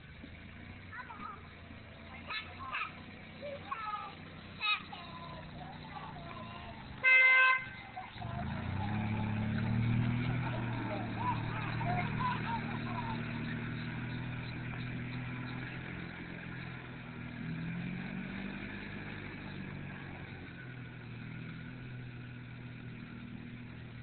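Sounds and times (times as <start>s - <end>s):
golf cart engine running: 0.0s - 24.0s.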